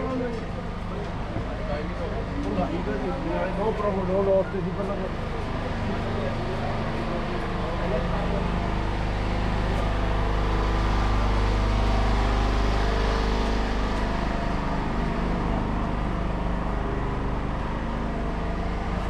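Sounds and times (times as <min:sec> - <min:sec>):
motor hum: 0:03.6 - 0:19.0.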